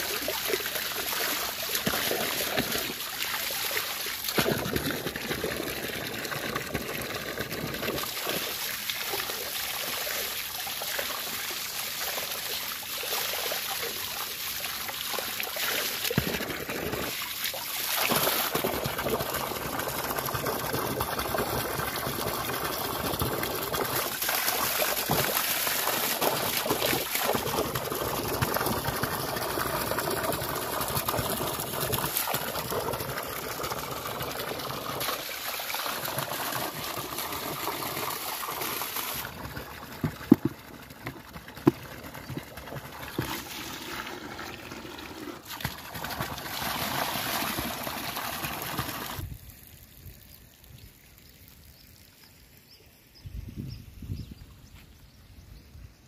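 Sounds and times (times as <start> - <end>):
hands working in water stream: 0.0 - 49.3
water gushing from hose: 0.0 - 52.5.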